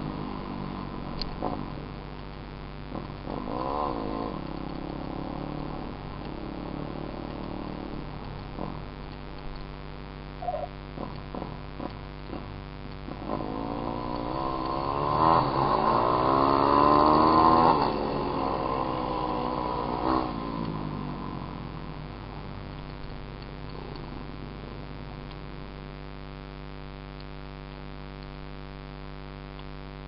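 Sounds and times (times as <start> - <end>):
dirt bike engine idling and revving: 0.0 - 26.0.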